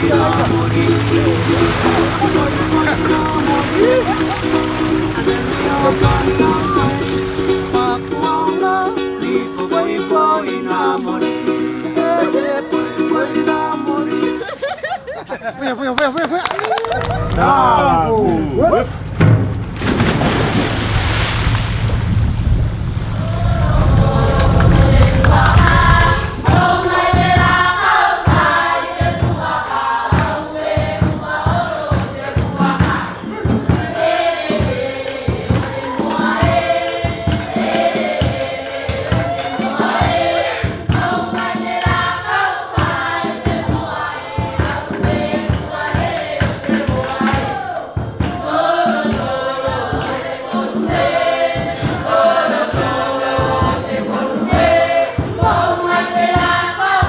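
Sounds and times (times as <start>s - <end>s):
group of voices singing: 0.0s - 14.6s, 23.1s - 57.0s.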